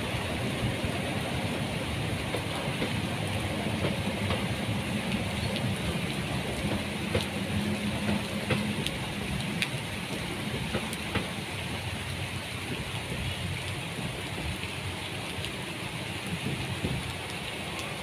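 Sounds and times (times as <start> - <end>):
passenger train rumble: 0.0 - 18.0
steady rain falling: 0.0 - 18.0.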